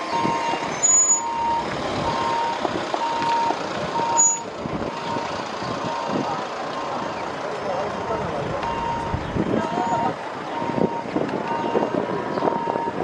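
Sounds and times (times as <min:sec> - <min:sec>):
vehicle reversing alarm beeping: 0:00.0 - 0:07.9, 0:08.6 - 0:13.0.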